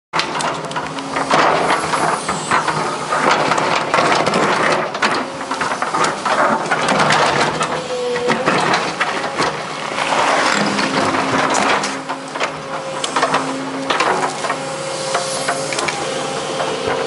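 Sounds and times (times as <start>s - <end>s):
concrete cracking and crunching: 0.2s - 17.0s
excavator bucket scraping concrete: 0.2s - 17.0s
excavator engine running: 0.2s - 17.0s.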